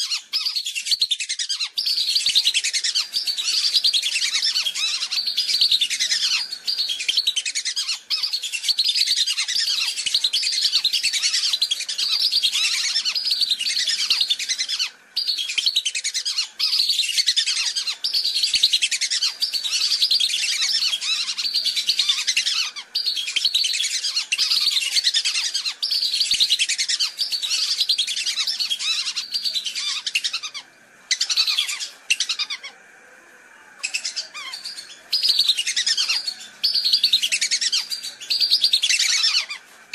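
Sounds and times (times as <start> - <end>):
whistling ducks calling: 0.0 - 32.9, 33.8 - 39.9.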